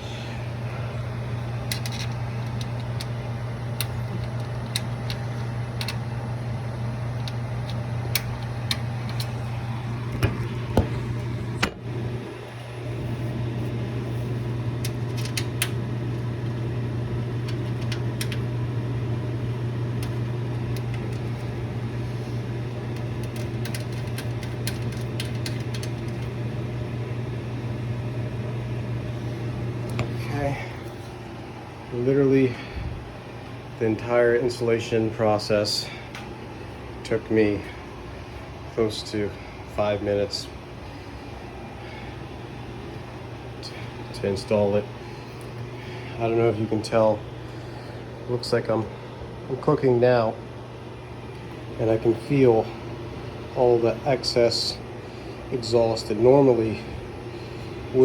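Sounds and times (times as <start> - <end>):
microwave vent fan humming: 0.0 - 58.0.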